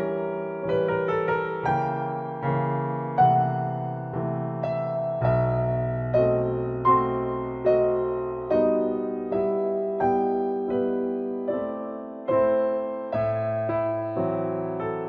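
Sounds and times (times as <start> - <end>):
slow gentle piano: 0.0 - 15.0.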